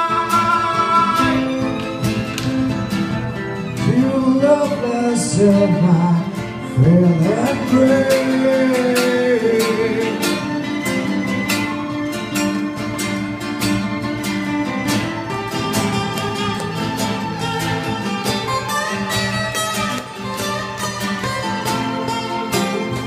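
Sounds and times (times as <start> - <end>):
acoustic guitars strumming: 0.0 - 23.0.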